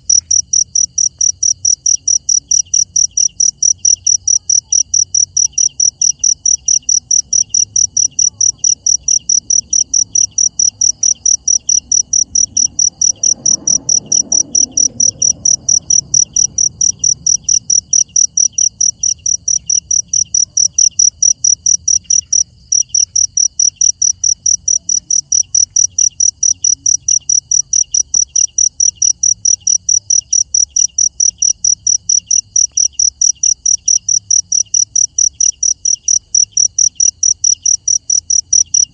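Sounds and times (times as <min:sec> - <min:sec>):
faint low-pitched insect chirping: 0:00.0 - 0:38.9
loud high-pitched insect chirping: 0:00.1 - 0:38.9.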